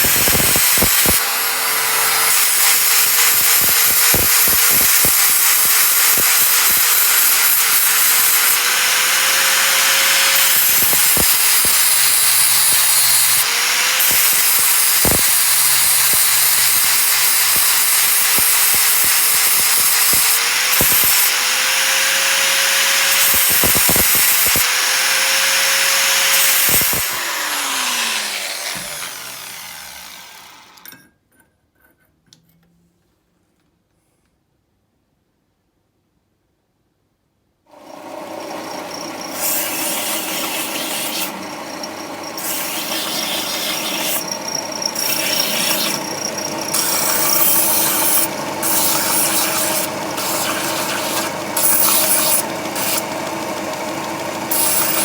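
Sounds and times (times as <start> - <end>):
electric grinder grinding steel: 0.0 - 30.9, 37.7 - 55.0.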